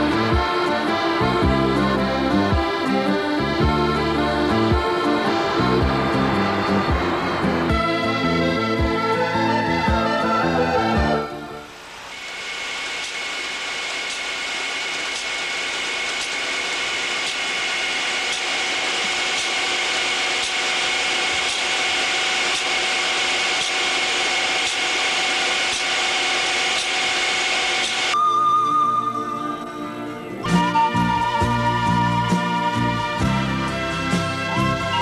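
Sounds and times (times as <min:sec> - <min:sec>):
irrigator mechanical whine: 0:00.0 - 0:29.7.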